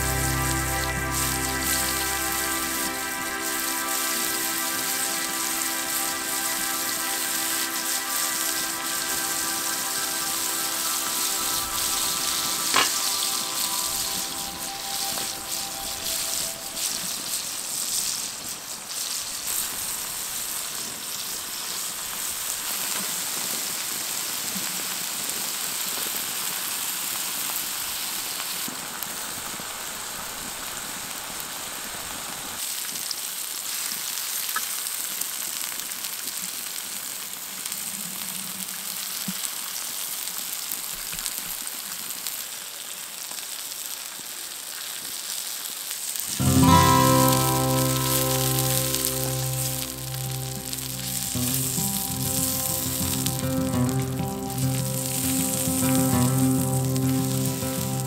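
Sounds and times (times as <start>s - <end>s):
cheese sizzling in a frying pan: 0.0s - 58.0s.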